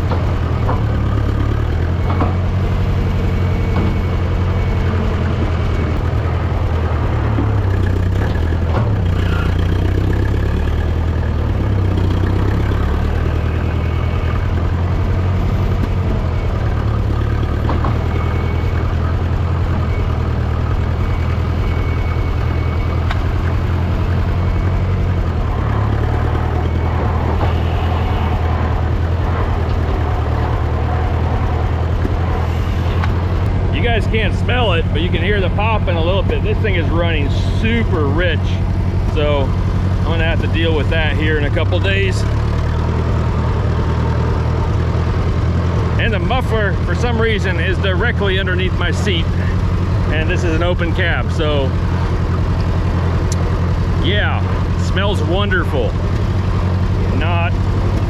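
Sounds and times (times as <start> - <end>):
exhaust popping: 0.0 - 58.0
tractor engine running: 0.0 - 58.0.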